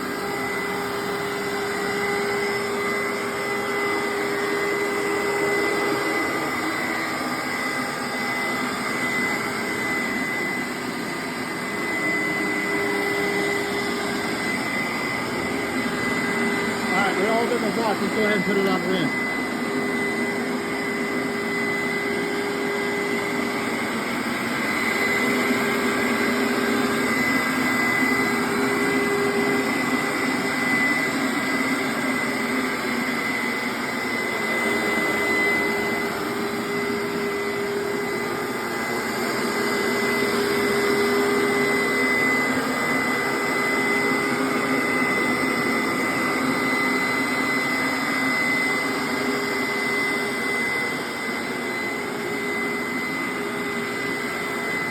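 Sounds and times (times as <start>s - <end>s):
carpet cleaner suction motor whine: 0.0s - 54.9s.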